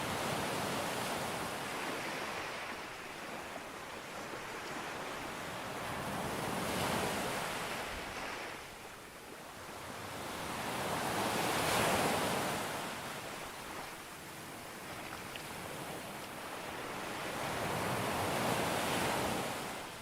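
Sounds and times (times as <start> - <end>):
sea waves breaking on beach: 0.0 - 20.0.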